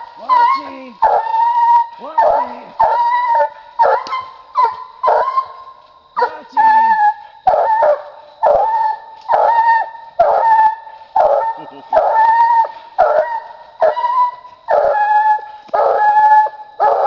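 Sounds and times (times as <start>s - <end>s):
hound barking and bawling: 0.2s - 5.6s, 6.2s - 17.0s.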